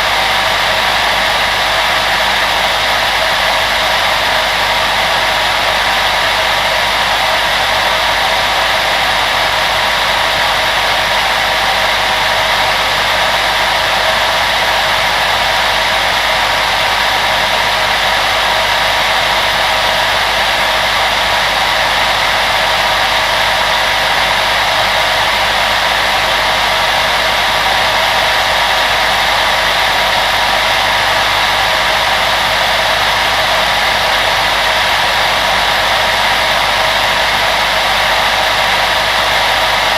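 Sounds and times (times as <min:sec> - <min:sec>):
electric blower fan rushing: 0:00.0 - 0:39.9.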